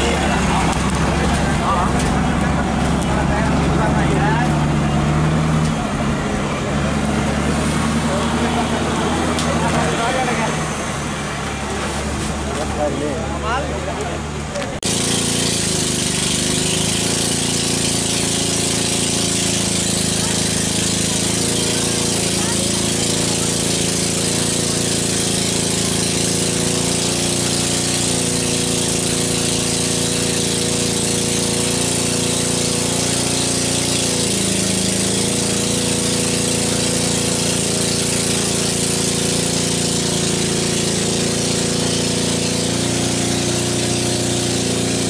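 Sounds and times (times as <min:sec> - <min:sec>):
engine running: 0:00.0 - 0:45.0
water spraying from hose: 0:06.8 - 0:12.8, 0:14.8 - 0:45.0.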